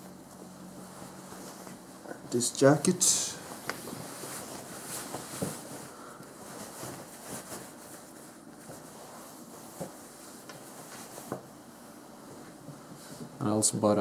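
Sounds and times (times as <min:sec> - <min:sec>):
jacket rustling: 0:00.0 - 0:13.4
low steady hiss: 0:00.0 - 0:14.0.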